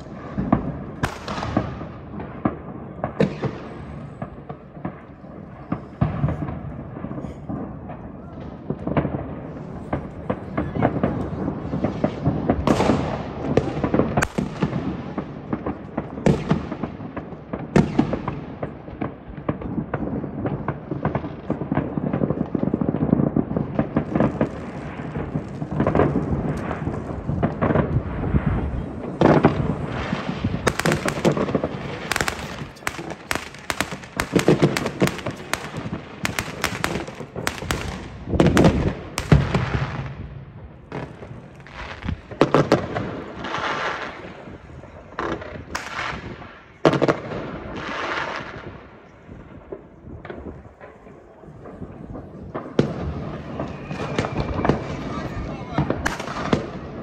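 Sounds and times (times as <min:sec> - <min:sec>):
fireworks bangs and booms: 0:00.0 - 0:57.0
fireworks crackling: 0:00.0 - 0:57.0.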